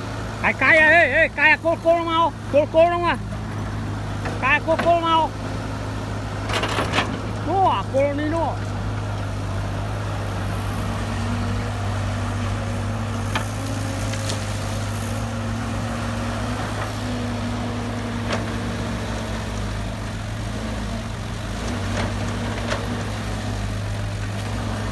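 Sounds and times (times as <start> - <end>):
diesel engine idling: 0.0 - 24.3.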